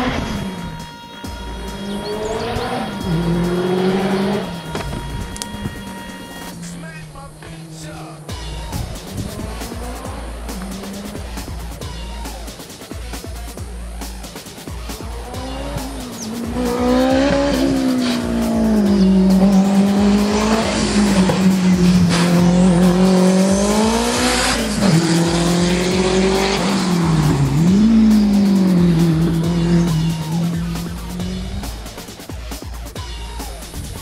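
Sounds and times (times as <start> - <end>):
race car engine at full throttle: 0.0 - 34.0.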